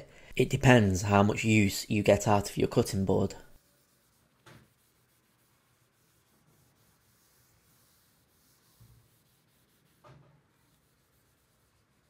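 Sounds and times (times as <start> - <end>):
cloth rubbing on wood: 2.2 - 12.0.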